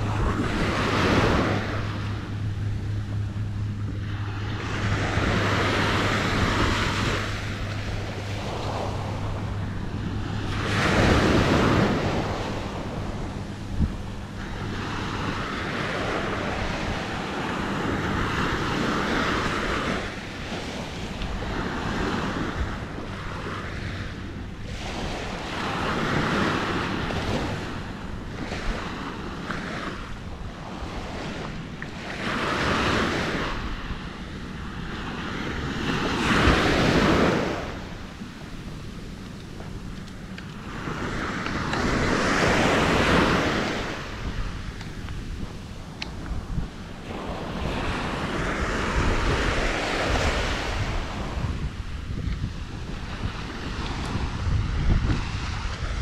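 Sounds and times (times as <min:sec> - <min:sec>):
low steady hum: 0:00.0 - 0:56.0
waves breaking on beach: 0:00.0 - 0:56.0
wind buffeting microphone: 0:00.0 - 0:56.0.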